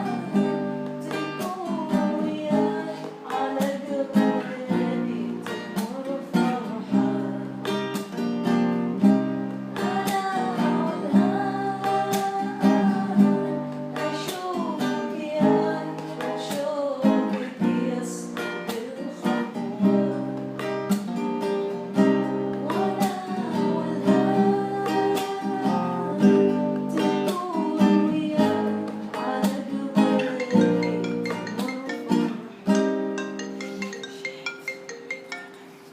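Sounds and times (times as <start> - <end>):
person singing: 0.0 - 7.4, 9.8 - 20.4, 22.6 - 35.6
strummed acoustic guitar: 0.0 - 35.9.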